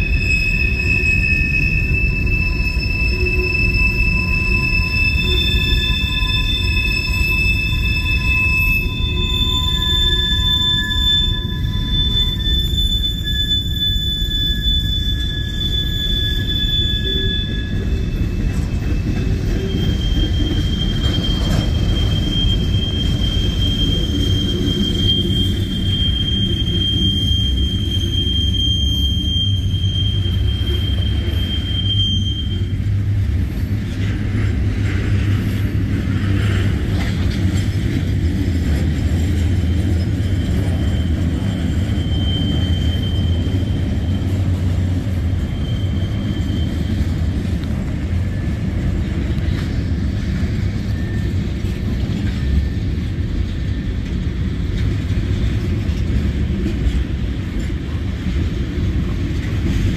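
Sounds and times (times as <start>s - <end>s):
high wheel squeal: 0.0s - 59.9s
train wheels rumbling on rail: 0.0s - 59.9s.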